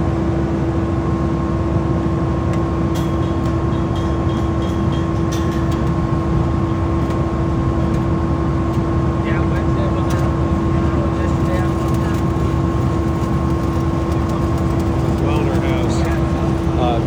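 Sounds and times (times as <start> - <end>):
engine running with hum: 0.0 - 17.0.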